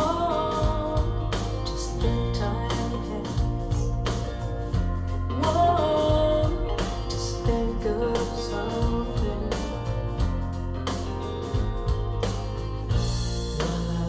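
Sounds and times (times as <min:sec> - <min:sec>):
guitar-led song: 0:00.0 - 0:14.0.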